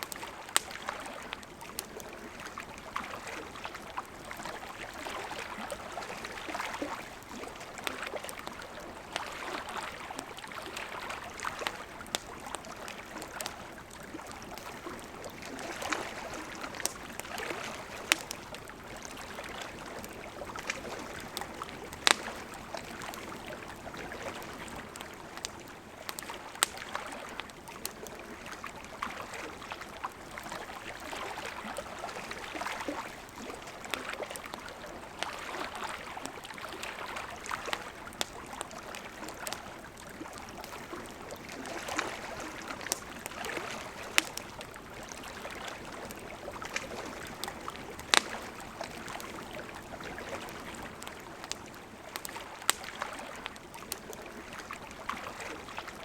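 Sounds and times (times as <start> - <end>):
campfire crackling and popping: 0.0 - 56.0
river flowing: 0.0 - 56.0.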